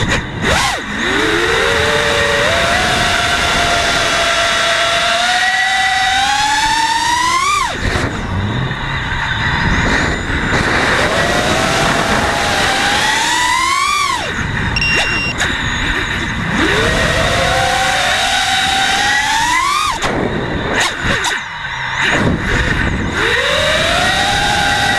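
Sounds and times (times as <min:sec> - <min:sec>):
quadcopter motors whining: 0:00.0 - 0:24.9.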